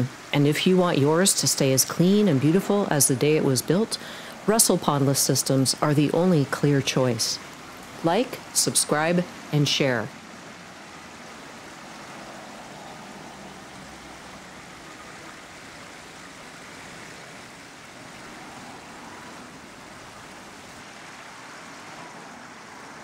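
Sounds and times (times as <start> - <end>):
waterfall splashing over rocks: 0.0 - 23.0.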